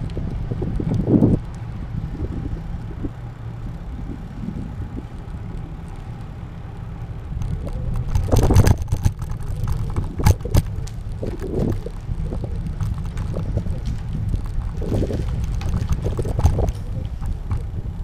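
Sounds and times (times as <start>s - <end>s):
wind on microphone: 0.0s - 5.8s, 7.2s - 18.0s
bike knocks and rattles: 0.0s - 18.0s
road rumble: 0.0s - 18.0s.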